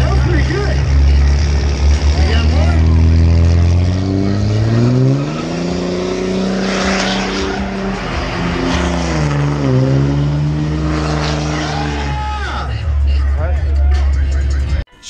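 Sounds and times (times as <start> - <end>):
truck engine revving high: 0.0 - 14.8.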